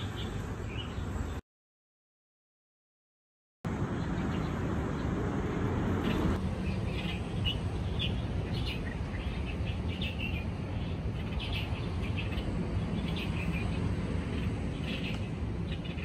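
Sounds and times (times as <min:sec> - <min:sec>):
songbirds chirping: 0:00.0 - 0:01.4, 0:03.7 - 0:16.0.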